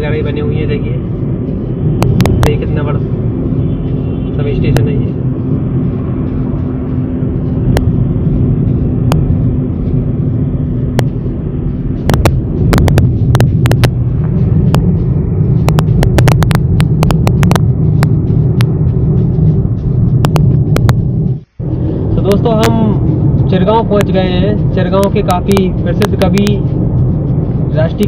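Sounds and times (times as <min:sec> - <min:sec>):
car driving on highway: 0:00.0 - 0:28.0.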